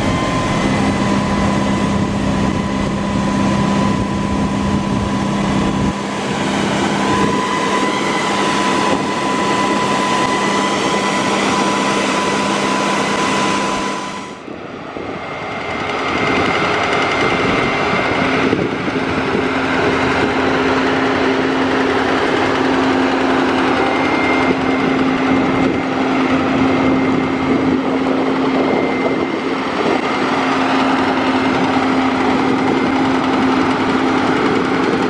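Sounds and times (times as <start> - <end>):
harvest machinery whining: 0.0 - 35.0.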